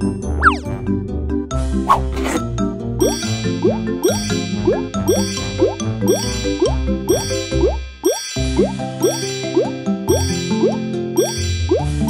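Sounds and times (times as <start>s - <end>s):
bouncy children's music: 0.0s - 12.0s.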